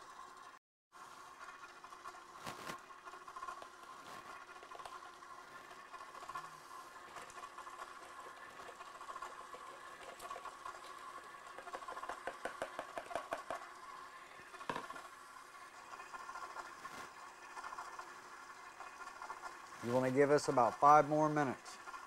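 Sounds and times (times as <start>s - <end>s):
stand mixer motor running: 1.4s - 22.0s.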